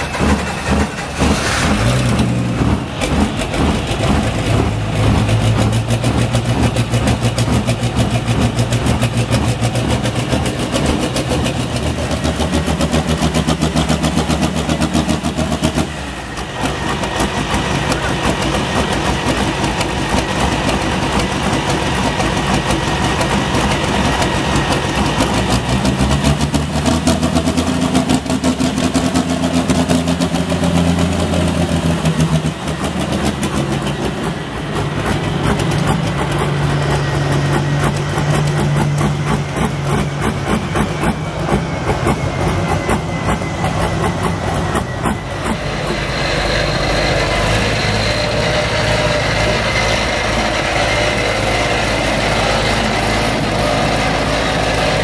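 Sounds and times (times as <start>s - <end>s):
diesel tractor engine running hard: 0.0s - 55.0s.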